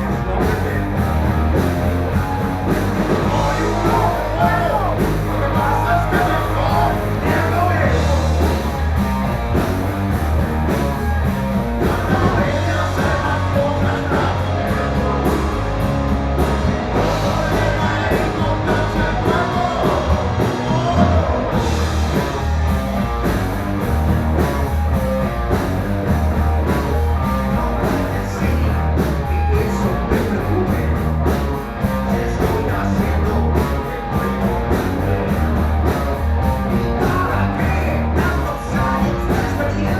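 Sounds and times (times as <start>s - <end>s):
rock music with singing: 0.0s - 39.9s.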